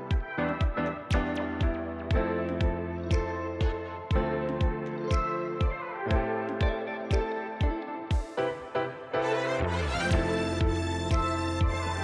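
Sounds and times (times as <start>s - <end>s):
kick drum beat: 0.0s - 8.5s, 10.1s - 12.0s
synth music with bass line: 0.0s - 12.0s.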